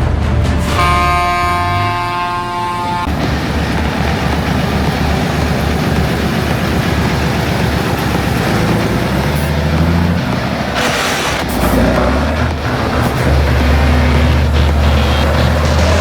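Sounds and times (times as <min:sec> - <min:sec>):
truck engine running loudly: 0:00.0 - 0:16.0.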